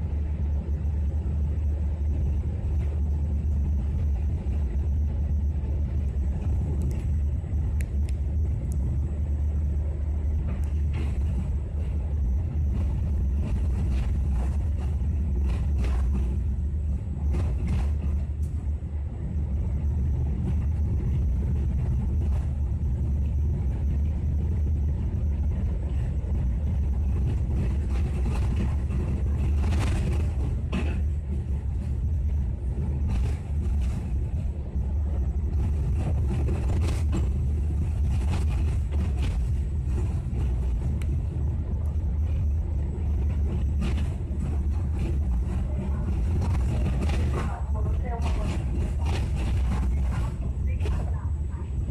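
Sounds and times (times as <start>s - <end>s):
train low rumble: 0.0s - 51.9s.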